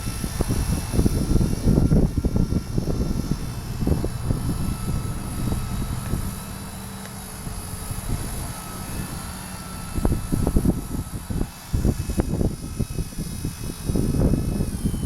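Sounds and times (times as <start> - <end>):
faint whine of rc helicopter: 0.0 - 15.0
wind buffeting microphone: 0.0 - 15.0.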